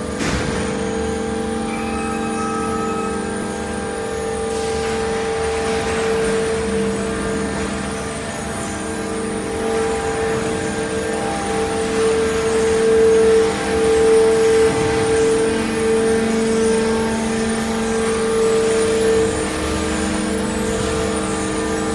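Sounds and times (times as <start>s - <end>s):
machinery humming: 0.0s - 21.9s
constant mid-pitched tone: 1.5s - 21.8s.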